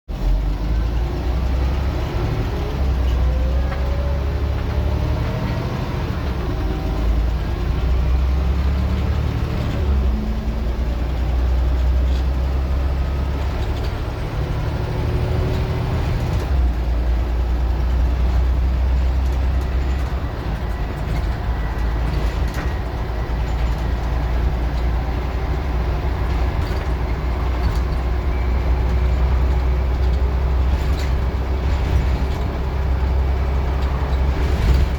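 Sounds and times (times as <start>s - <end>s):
bus engine pulling hard: 0.1s - 34.9s.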